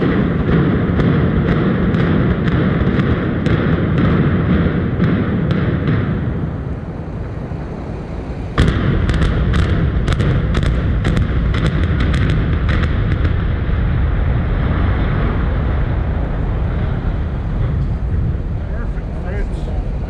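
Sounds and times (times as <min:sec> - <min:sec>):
sharp explosive cracks: 0:00.0 - 0:07.4, 0:08.4 - 0:20.0
explosive blast: 0:00.0 - 0:20.0
low rumble: 0:00.0 - 0:20.0.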